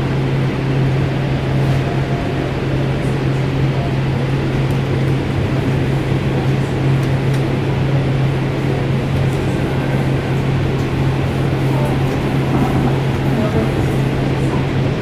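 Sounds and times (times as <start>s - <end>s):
light rail car droning: 0.0s - 15.0s.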